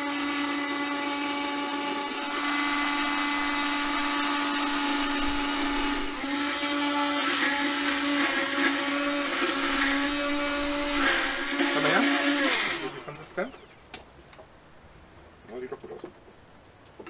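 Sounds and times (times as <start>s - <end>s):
stick blender running: 0.0s - 14.0s.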